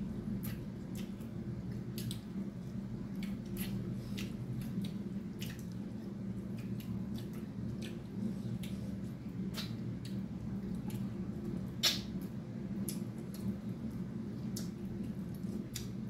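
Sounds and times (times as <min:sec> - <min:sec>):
steady low hum: 0:00.0 - 0:16.0
wet chewing and lip smacks: 0:00.3 - 0:16.0.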